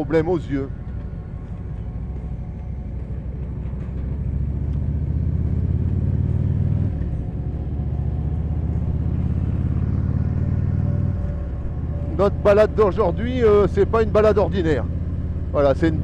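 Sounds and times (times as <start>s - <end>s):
motorcycle engine running: 0.7s - 16.0s.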